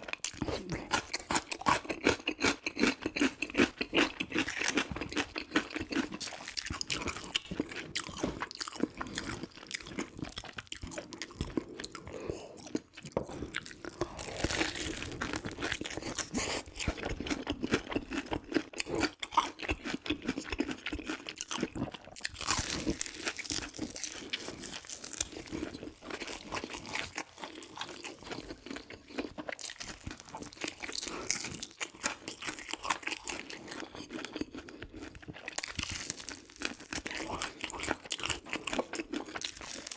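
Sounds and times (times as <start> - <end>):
person chewing crispy food: 0.0 - 39.9.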